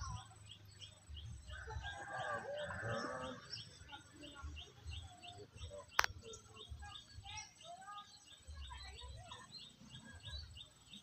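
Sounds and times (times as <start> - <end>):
busy calling or chatter: 0.0 - 11.0.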